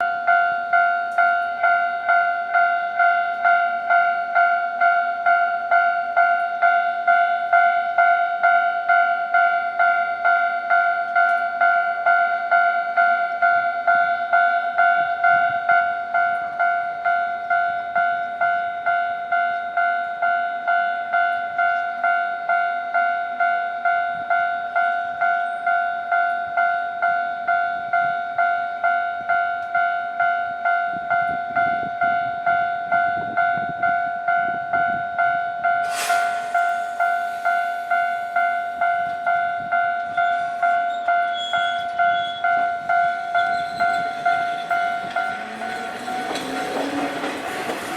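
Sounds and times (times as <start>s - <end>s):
level-crossing alarm bell: 0.0s - 47.9s.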